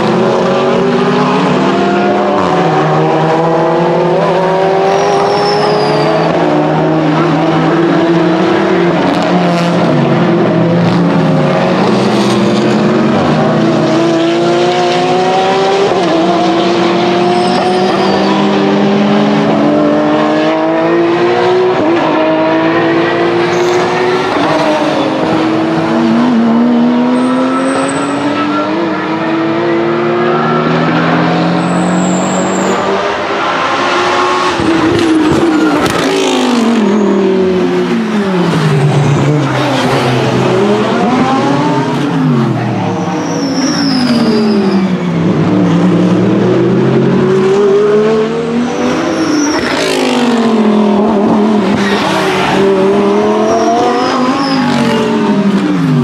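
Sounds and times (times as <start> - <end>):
race cars passing: 0.0 - 56.0.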